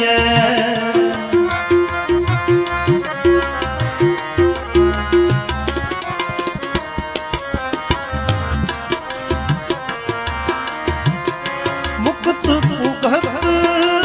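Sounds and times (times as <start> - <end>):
sustained instrumental chords: 0.0 - 14.0
tabla playing a quick rhythm: 0.0 - 14.0.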